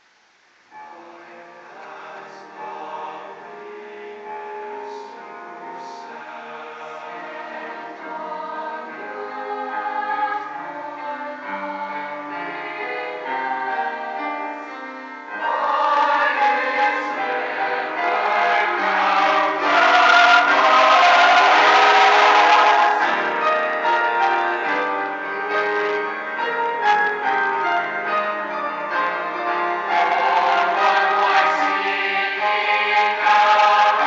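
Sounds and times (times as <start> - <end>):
mixed choir singing: 0.7 - 34.0.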